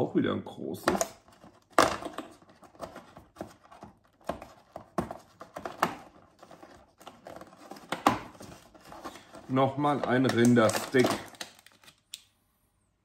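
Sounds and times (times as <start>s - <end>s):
plastic packaging crackling: 0.9s - 12.2s.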